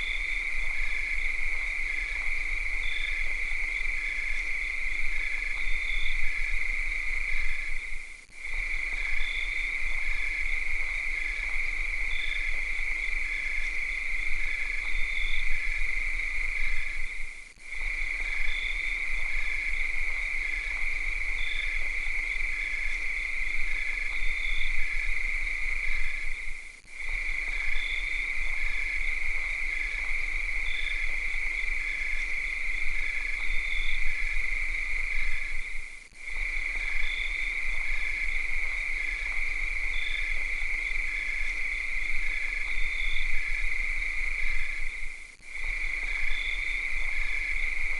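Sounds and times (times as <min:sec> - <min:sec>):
cicadas droning: 0:00.0 - 0:47.9.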